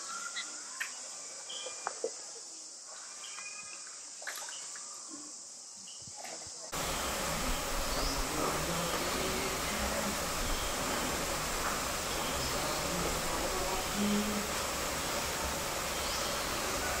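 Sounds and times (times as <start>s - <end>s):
even noise: 0.0s - 17.0s
insects buzzing: 0.0s - 17.0s.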